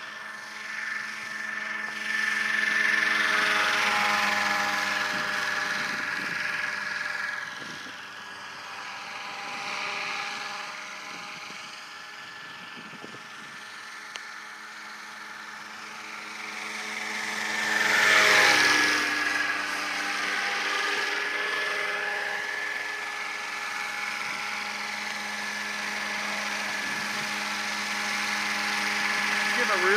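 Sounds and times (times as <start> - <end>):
model helicopter motor whine: 0.0 - 29.9.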